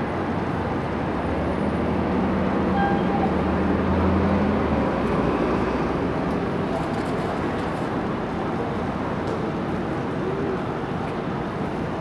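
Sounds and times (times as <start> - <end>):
outdoor noise: 0.0 - 12.0.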